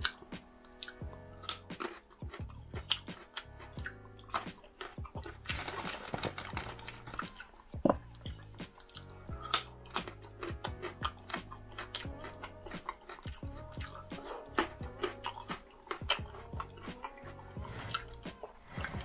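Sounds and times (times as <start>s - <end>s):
background music: 0.0s - 19.0s
crunching raw carrot: 0.8s - 19.0s.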